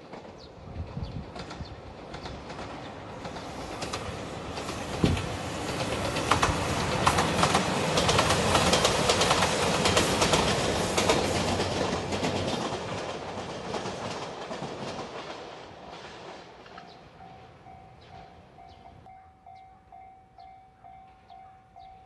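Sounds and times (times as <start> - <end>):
train passing with wheels clacking: 0.0 - 22.0.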